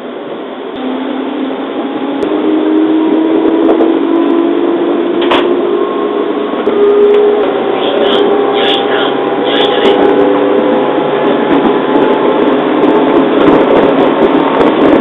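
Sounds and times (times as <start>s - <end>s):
train rumble with motor whine: 0.0s - 15.0s.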